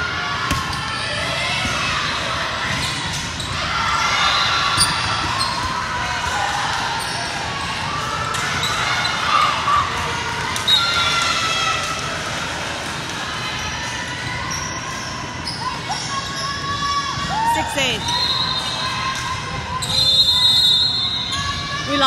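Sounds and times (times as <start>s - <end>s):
voices echoing in a gym: 0.0s - 22.0s.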